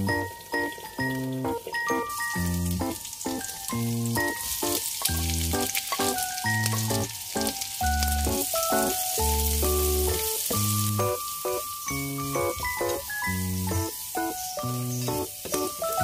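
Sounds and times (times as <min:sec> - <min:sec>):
background music: 0:00.0 - 0:16.0
garlic and onion sizzling in oil: 0:00.1 - 0:16.0.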